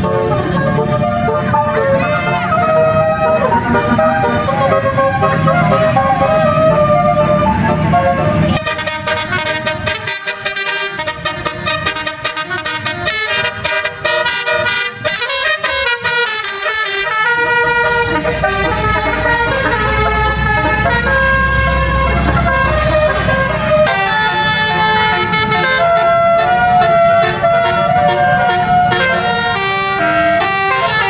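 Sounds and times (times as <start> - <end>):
bus horn playing a tune: 0.0 - 31.0.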